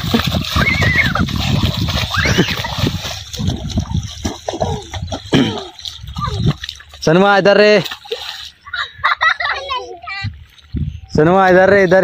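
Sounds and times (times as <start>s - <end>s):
feet splashing in muddy water: 0.0s - 11.1s.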